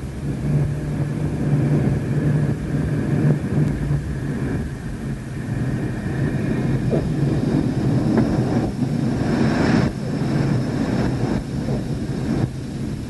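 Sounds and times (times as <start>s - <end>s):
air rushing over canopy: 0.0s - 13.0s
jet engines rumbling: 0.0s - 13.0s.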